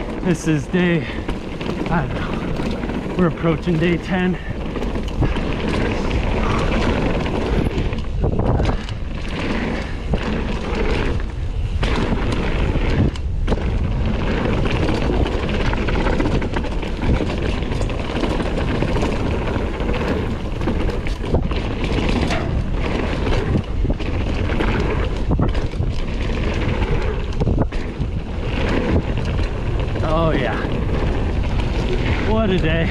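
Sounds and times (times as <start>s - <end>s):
bike clicks and rattles: 0.0s - 32.9s
tyres rumbling on dirt trail: 0.0s - 32.9s
wind rushing over microphone: 0.0s - 32.9s.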